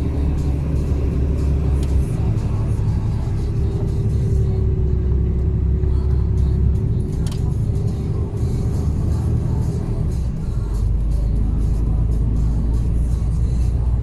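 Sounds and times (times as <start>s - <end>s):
music playing: 0.0s - 14.0s
truck engine and road rumble: 0.0s - 14.0s.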